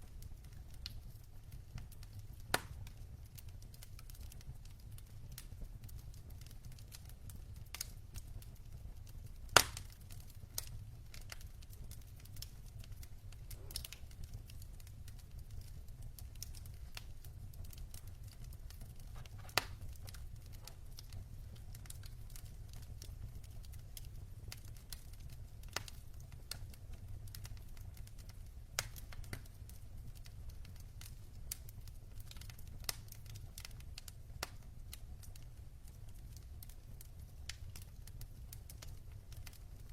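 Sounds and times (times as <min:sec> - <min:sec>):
burning logs popping: 0:00.0 - 0:39.9
fire low rumble: 0:00.0 - 0:39.9
wood fire crackling: 0:00.0 - 0:39.9.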